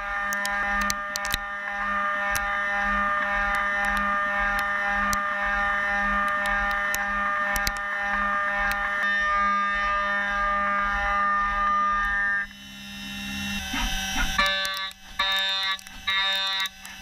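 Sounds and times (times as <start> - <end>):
cnc spindle high whine: 0.0 - 17.0
low pulsing hum: 0.0 - 17.0.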